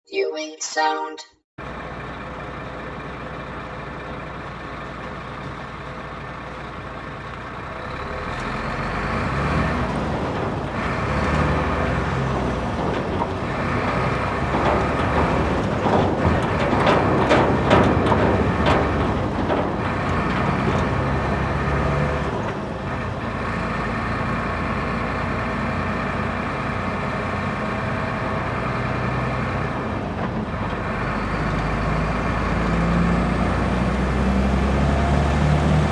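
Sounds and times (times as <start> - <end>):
truck engine running: 1.6 - 34.9
road noise: 1.6 - 35.9.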